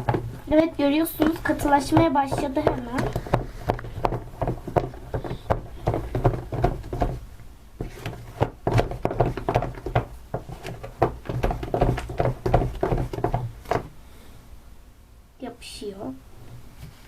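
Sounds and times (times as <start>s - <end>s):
spoon stirring slime in a bowl: 0.0s - 13.9s.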